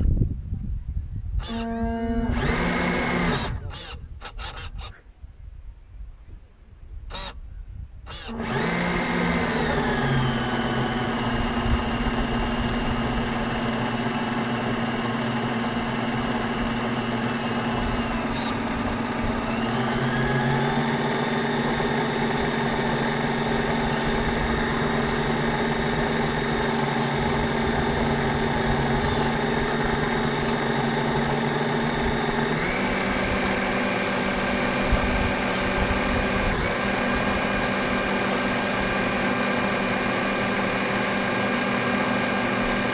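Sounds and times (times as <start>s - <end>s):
electric motor whining: 1.3s - 5.0s, 7.0s - 7.4s, 8.0s - 42.9s.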